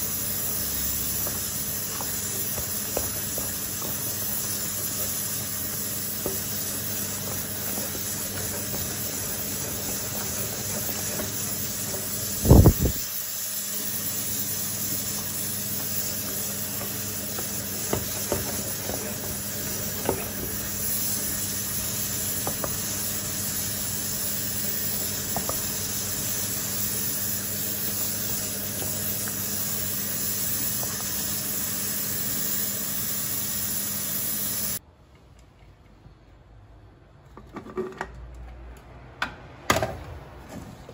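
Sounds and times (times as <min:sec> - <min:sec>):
steady hiss: 0:00.0 - 0:34.8.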